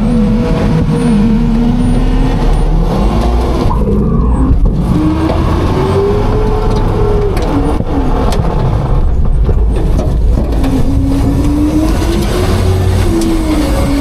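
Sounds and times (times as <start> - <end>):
garbage truck engine revving: 0.0 - 14.0
hydraulic whine: 0.0 - 14.0.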